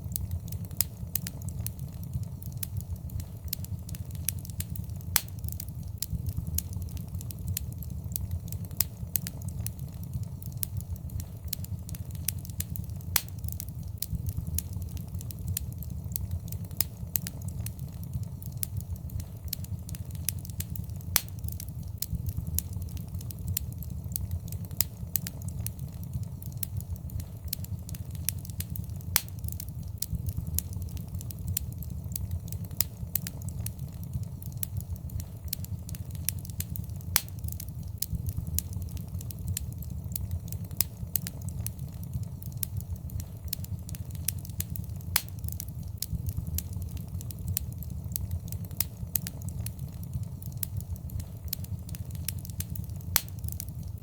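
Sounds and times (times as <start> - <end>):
fire crackles and pops: 0.0 - 54.0
low rumble of flame: 0.0 - 54.0.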